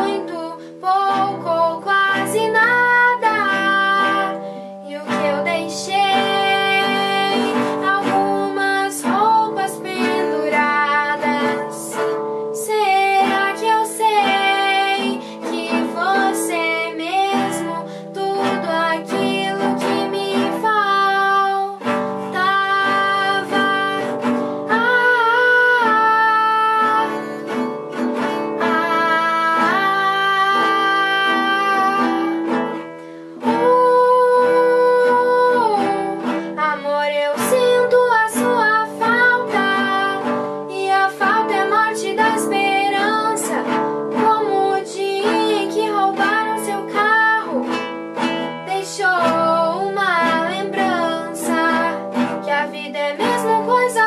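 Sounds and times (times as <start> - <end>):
girl singing: 0.0 - 54.0
strummed acoustic guitar: 0.0 - 54.0.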